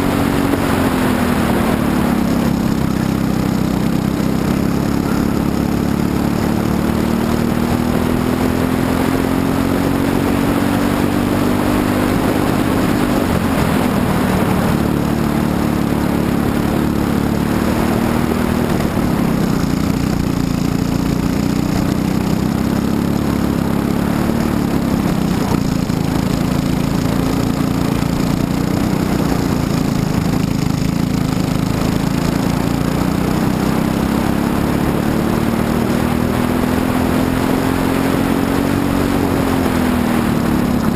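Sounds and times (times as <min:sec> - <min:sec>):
kart engine at racing speed: 0:00.0 - 0:40.9.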